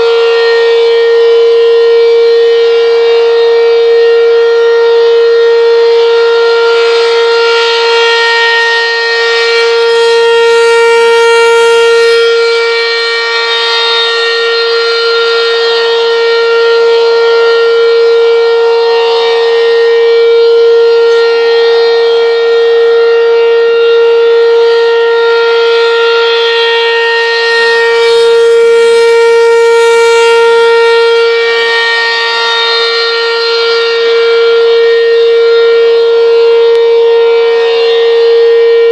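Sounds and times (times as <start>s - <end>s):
steady warning siren tone: 0.0s - 38.9s.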